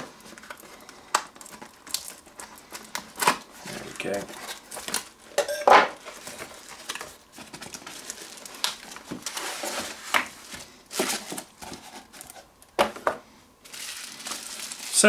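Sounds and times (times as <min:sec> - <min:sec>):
bubble wrap crinkling: 0:00.0 - 0:05.4, 0:06.0 - 0:12.8, 0:13.6 - 0:15.0.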